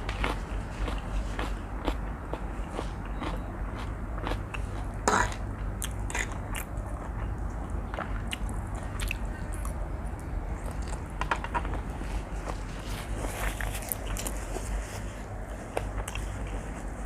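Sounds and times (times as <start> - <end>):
person chewing noodles: 0.0 - 11.2, 11.8 - 16.6
steady low hum: 0.0 - 17.0.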